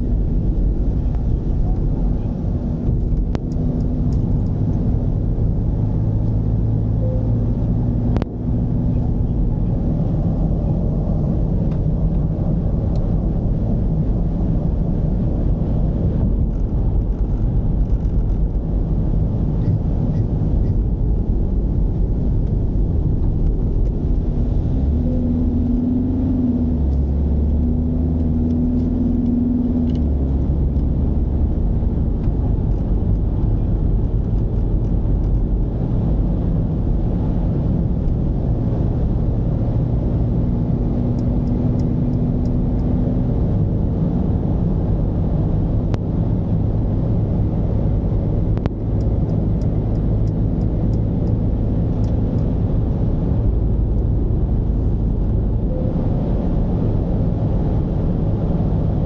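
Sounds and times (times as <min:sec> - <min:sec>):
diesel van engine running: 0:00.0 - 0:59.0
low hum: 0:00.0 - 0:59.0
road noise: 0:00.0 - 0:59.0.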